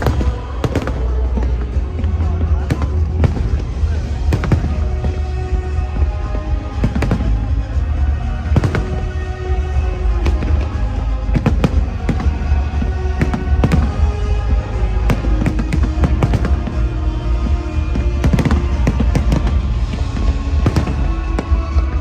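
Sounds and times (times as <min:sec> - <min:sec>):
fireworks exploding: 0:00.0 - 0:22.0
music with long held notes: 0:00.0 - 0:22.0.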